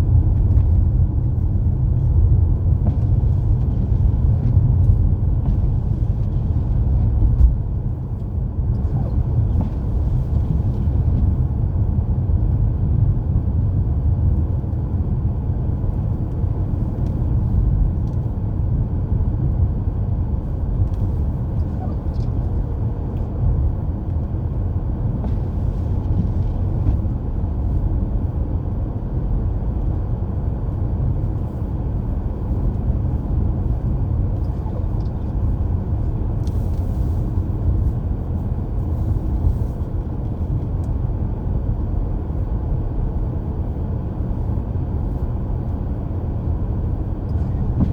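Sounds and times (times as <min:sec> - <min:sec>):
car interior road rumble: 0:00.0 - 0:47.9.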